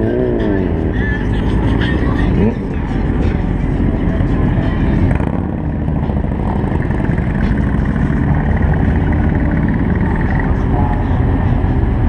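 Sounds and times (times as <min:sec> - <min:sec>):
motorcycle engines rumbling: 0:00.0 - 0:12.0.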